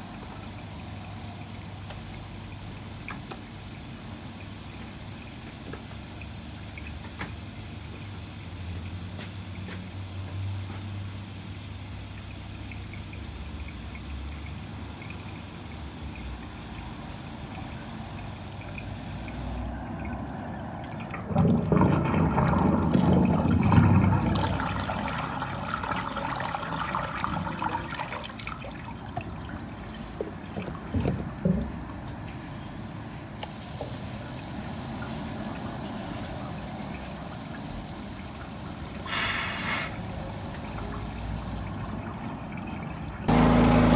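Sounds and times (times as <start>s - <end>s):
water gushing: 0.0s - 31.6s, 33.4s - 43.9s
water trickling in a drain pipe: 0.0s - 32.4s, 33.4s - 43.9s.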